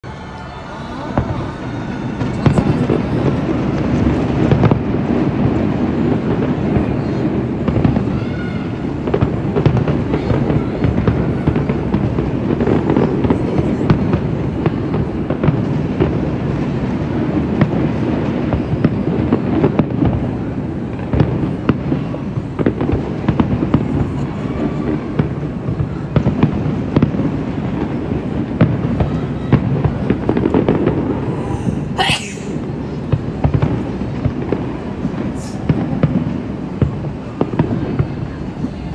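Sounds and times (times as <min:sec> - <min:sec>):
fireworks bangs and crackles: 0:00.1 - 0:38.9.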